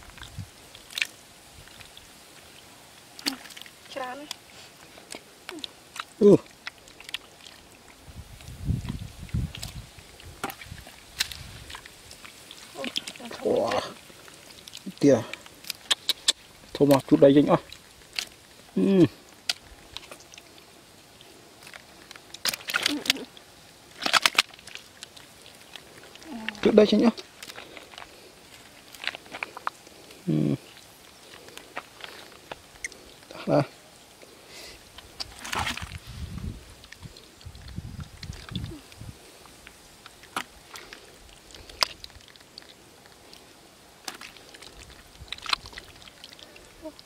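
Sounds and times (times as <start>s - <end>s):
wet mud squelching: 0.0s - 47.0s.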